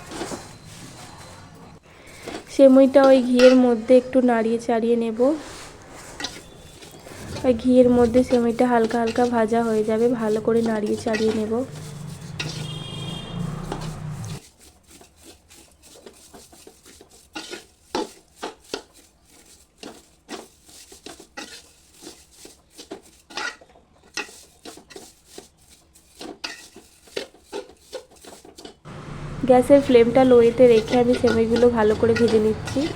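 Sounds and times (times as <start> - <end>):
spoon scraping metal pot: 0.0 - 32.9.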